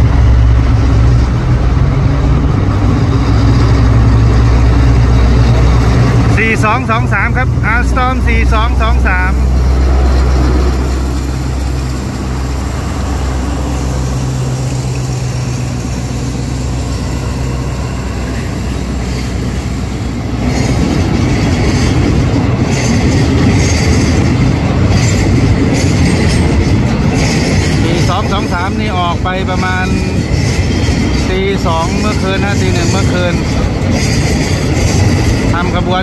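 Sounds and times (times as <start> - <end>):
diesel locomotive engine drone: 0.0 - 36.0
train wheels clattering on rails: 0.0 - 36.0.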